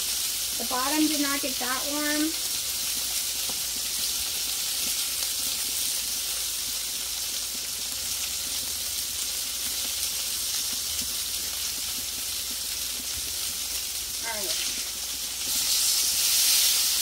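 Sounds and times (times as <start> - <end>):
burger patties sizzling on griddle: 0.0 - 17.0.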